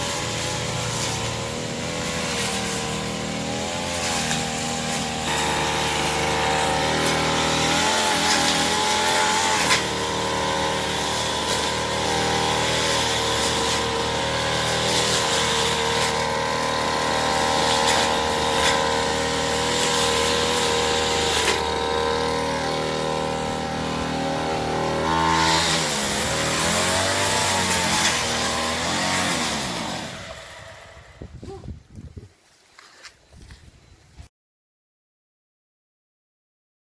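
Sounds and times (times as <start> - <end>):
grass cutter engine running: 0.0 - 31.3.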